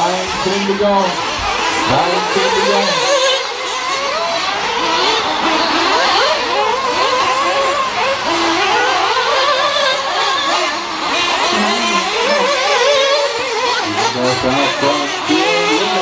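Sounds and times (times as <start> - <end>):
rc car engines whining: 0.0 - 16.0.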